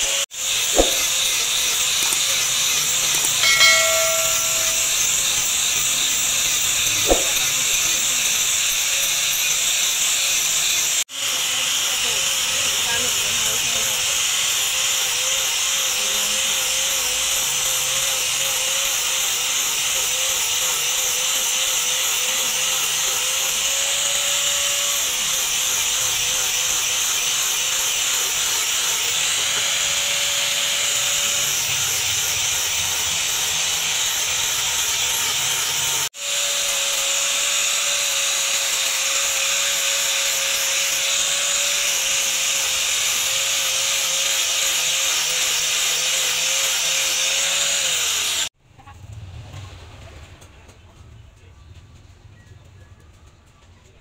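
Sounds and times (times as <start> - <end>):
angle grinder sanding wood: 0.0 - 48.6.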